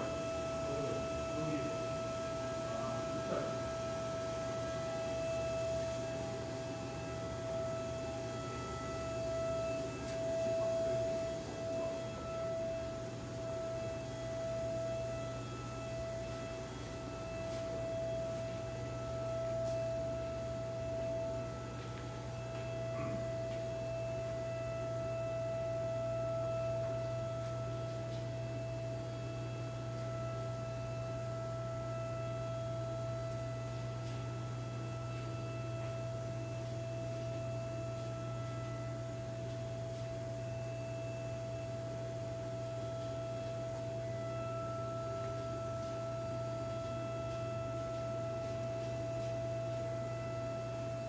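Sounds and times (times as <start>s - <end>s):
high-pitched machine whine: 0.0s - 51.0s
low electrical hum: 0.0s - 51.0s.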